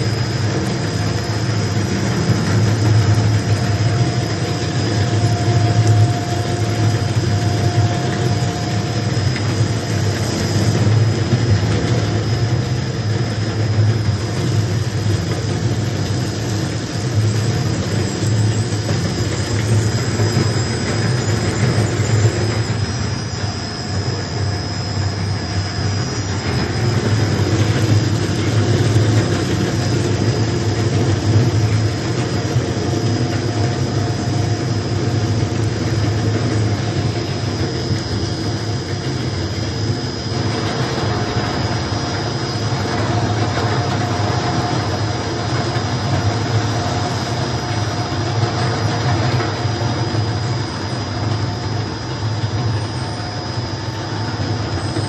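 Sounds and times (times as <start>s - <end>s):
low motor hum: 0.0s - 53.2s
thin high whine: 0.0s - 55.0s.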